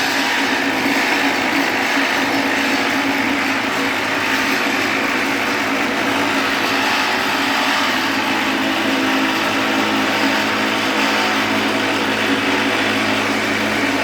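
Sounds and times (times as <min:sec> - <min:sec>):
cutting machine motor hum: 0:00.0 - 0:14.0.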